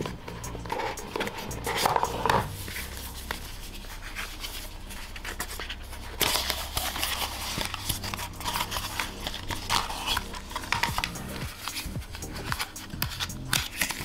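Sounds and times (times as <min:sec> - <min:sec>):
low steady hum: 0:00.0 - 0:13.6
cardboard box being handled: 0:00.0 - 0:14.0
paper rustling: 0:00.0 - 0:14.0.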